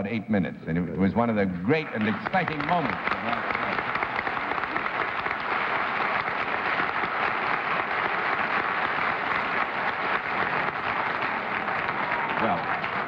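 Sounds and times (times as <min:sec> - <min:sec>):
audience applause: 0:01.6 - 0:13.0.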